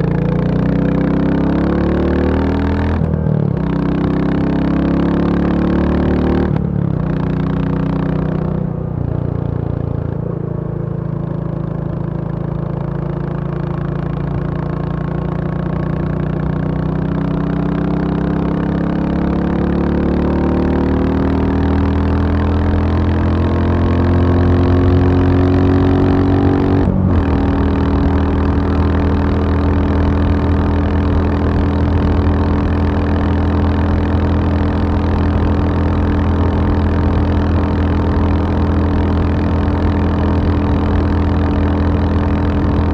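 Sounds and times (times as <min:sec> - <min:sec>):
motorcycle engine revving up: 0:00.0 - 0:10.2, 0:12.0 - 0:42.9.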